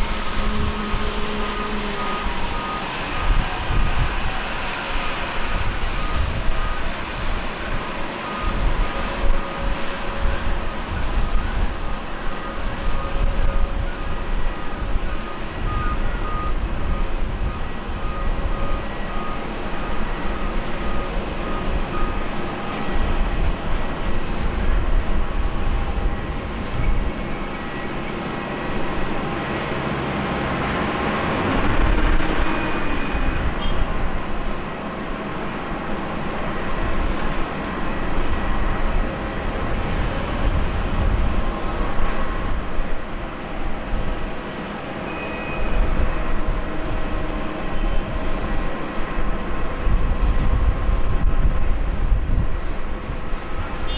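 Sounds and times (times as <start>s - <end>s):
jet engine whine and rumble: 0.0s - 53.9s.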